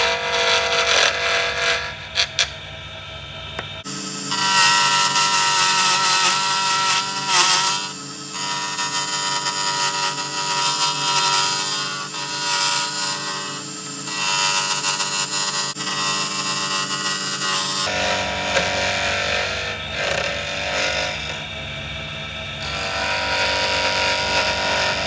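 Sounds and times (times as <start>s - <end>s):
lathe motor whine: 0.0s - 25.0s.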